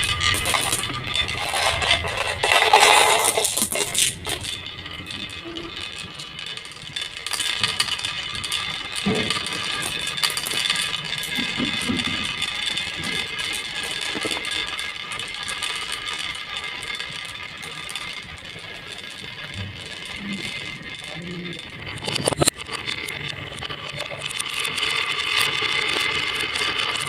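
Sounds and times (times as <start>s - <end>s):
marbles rattling along a track: 0.0s - 27.0s
sharp marble clack: 0.0s - 27.0s.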